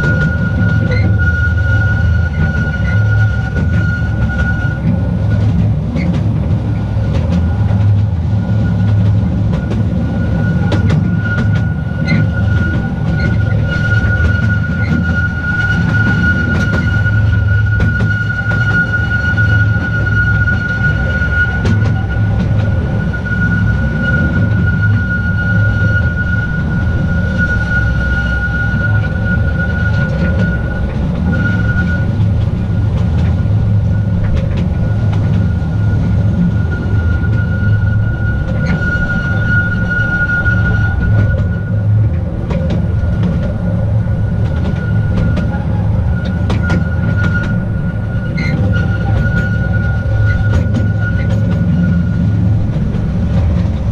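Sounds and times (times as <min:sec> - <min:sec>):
high-pitched whine: 0:00.0 - 0:53.9
train wheels rumbling on rail: 0:00.0 - 0:53.9.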